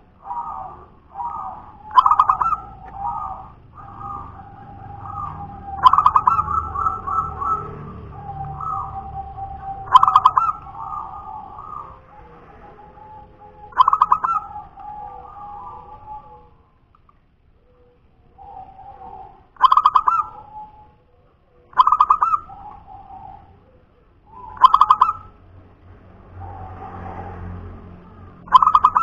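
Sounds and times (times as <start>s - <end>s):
dove cooing: 0.0s - 16.8s, 17.6s - 25.4s, 28.0s - 29.0s.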